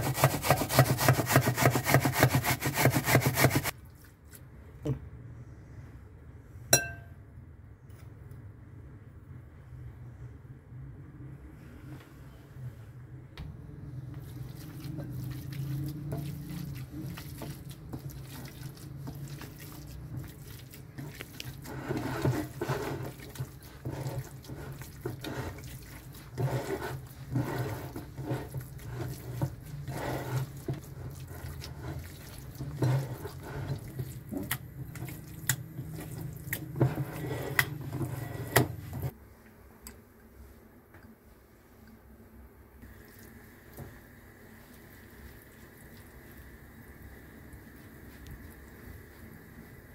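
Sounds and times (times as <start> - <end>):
low steady hum: 3.7 - 49.9.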